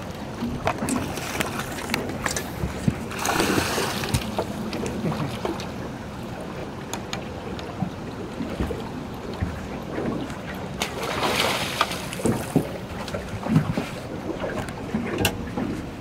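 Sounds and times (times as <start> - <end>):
water splashing beside boat: 0.0 - 16.0.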